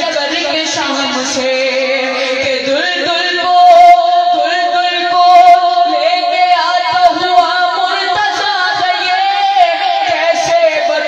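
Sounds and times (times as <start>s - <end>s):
boy singing into a microphone: 0.0s - 11.0s.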